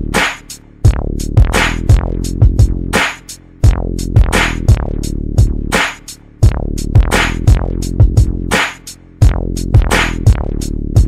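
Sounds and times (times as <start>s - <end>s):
hip-hop drum machine beat: 0.0s - 11.0s
steady bass: 0.0s - 11.0s.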